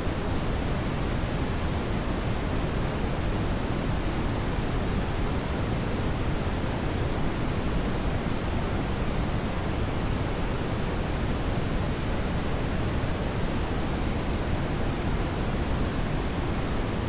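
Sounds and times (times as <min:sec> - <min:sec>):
steady brown noise: 0:00.0 - 0:17.0.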